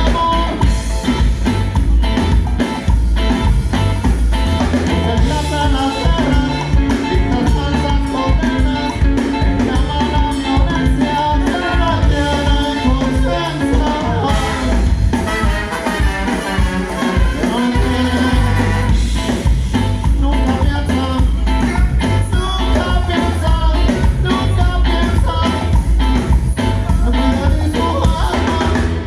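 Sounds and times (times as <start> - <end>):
live band playing ska: 0.0 - 29.0.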